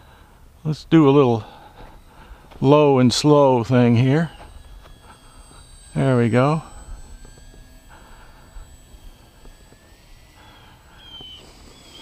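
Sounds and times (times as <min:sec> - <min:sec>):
model plane motor whine: 0:00.0 - 0:12.0.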